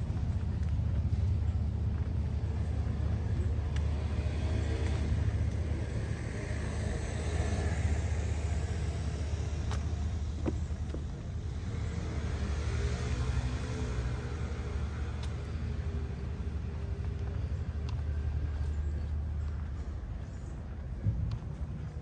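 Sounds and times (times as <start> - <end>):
low street rumble: 0.0 - 22.0.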